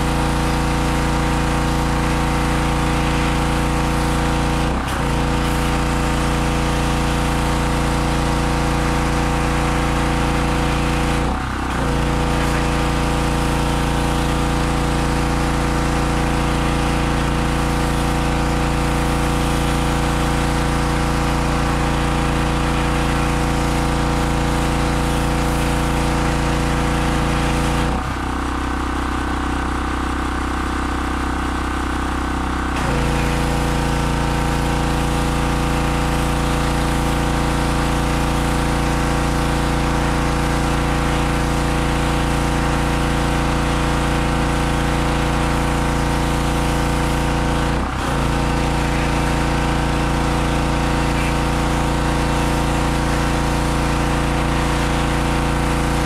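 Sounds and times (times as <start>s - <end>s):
pressure washer spray hissing: 0.0s - 27.9s, 32.8s - 56.0s
pressure washer engine running: 0.0s - 56.0s.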